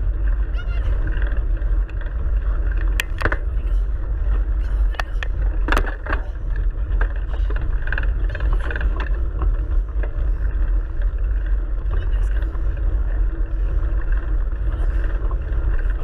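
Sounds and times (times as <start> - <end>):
bike rattling: 0.0 - 16.0
wind rumble on microphone: 0.0 - 16.0.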